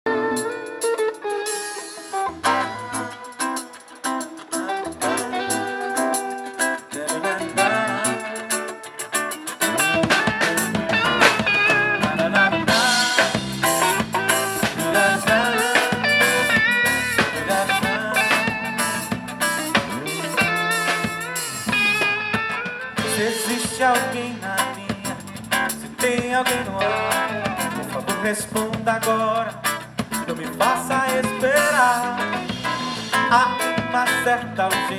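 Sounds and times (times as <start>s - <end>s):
pop band playing: 0.1s - 34.9s.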